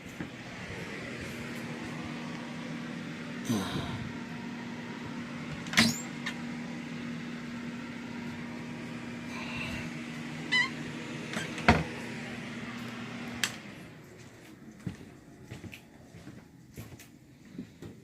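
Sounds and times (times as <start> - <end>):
appliance humming: 0.0 - 18.0.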